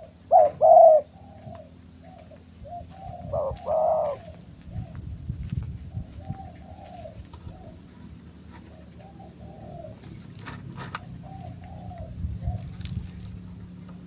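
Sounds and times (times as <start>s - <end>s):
dove cooing: 0.0s - 5.2s, 5.8s - 14.0s.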